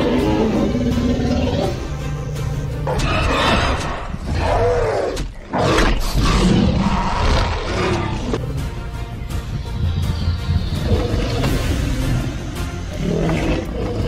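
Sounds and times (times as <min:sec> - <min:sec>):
dinosaurs roaring: 0:00.0 - 0:02.2, 0:02.8 - 0:08.4, 0:09.8 - 0:14.0.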